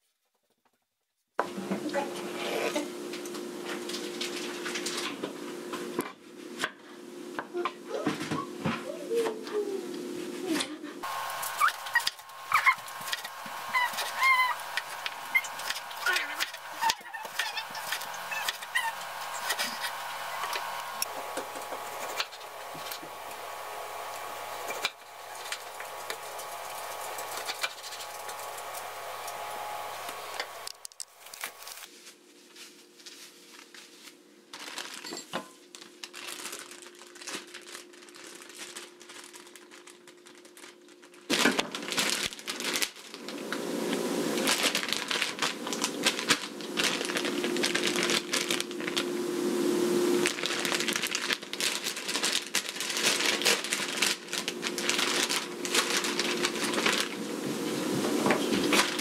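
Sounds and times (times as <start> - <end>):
plastic bag crinkling: 10.4 - 49.3, 50.1 - 59.0.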